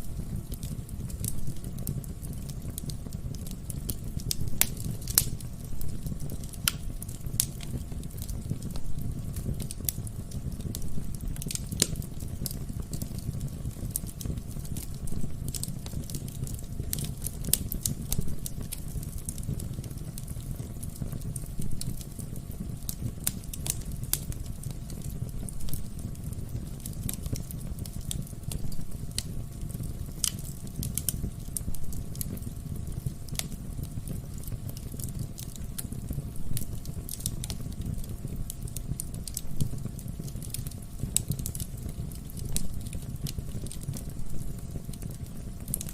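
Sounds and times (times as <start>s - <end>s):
burning logs crackling and popping: 0.0s - 45.9s
low rumble of flames: 0.0s - 45.9s.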